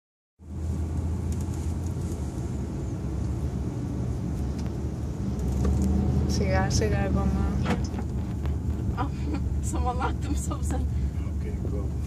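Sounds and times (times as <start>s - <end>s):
truck engine humming: 0.4s - 12.0s.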